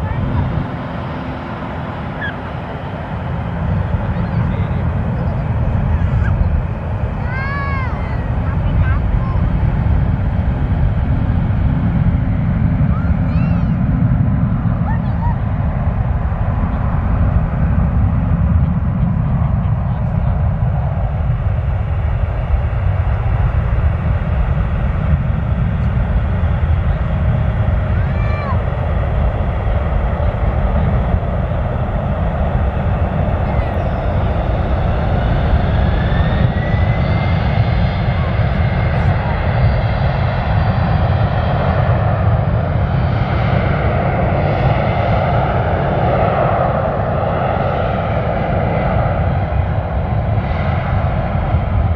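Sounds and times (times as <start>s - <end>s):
jet engines at high thrust: 0.0s - 51.9s.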